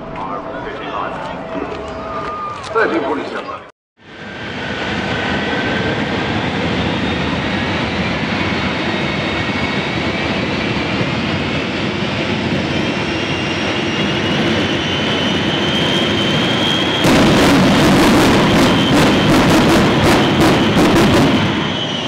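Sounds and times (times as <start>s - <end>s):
jet engines roaring with whine: 2.7s - 22.0s.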